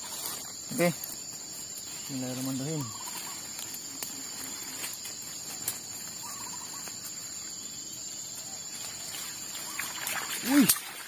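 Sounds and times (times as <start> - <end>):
high insect drone: 0.0 - 11.0
rustles in grass: 0.0 - 11.0.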